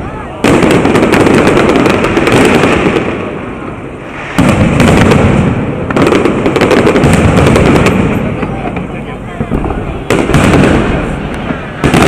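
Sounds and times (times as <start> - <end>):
fireworks bursts and crackling: 0.0 - 12.0.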